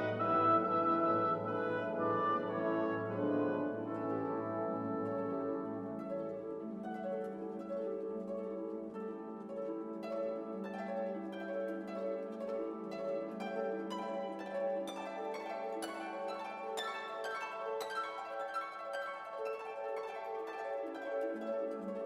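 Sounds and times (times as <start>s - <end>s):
plucked harp: 0.0s - 22.0s.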